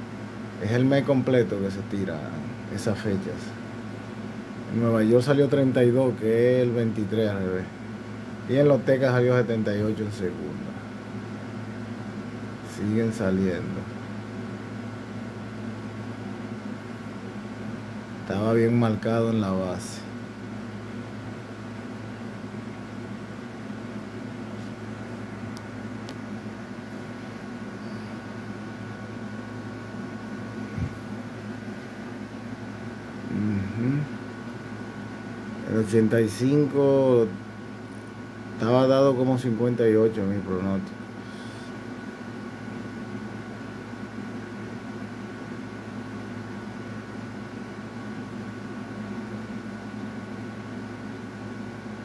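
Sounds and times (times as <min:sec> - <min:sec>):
background hum and hiss: 0:00.0 - 0:52.0.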